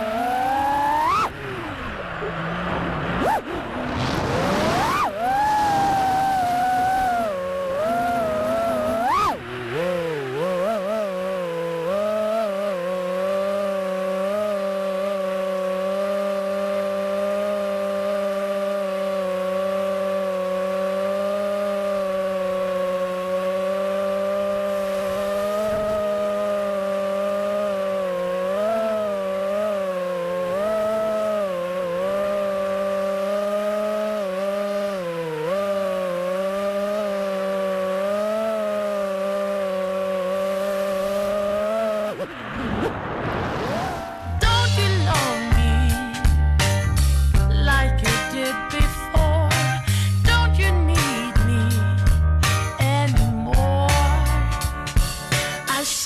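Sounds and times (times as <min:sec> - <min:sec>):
drone motors whining: 0:00.0 - 0:46.2.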